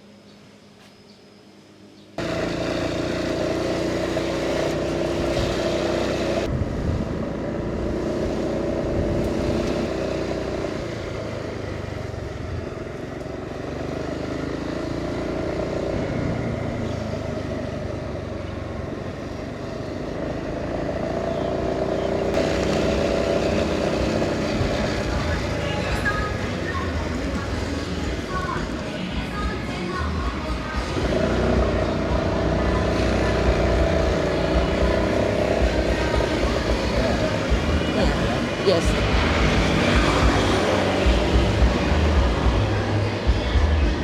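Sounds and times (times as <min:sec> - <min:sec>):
road and wind noise: 0:02.2 - 0:44.0
scooter engine running: 0:02.2 - 0:44.0.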